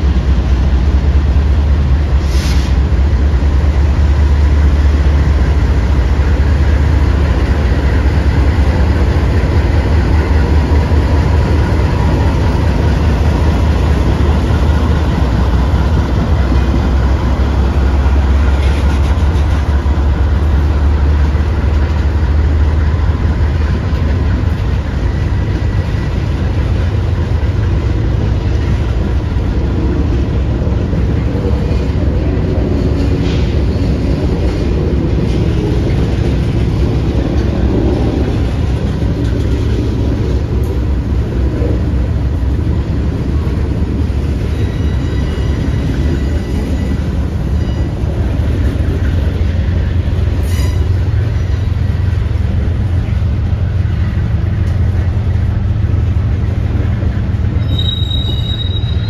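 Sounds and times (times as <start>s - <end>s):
freight train rumbling: 0.0s - 59.0s
railcars on rails: 0.0s - 59.0s.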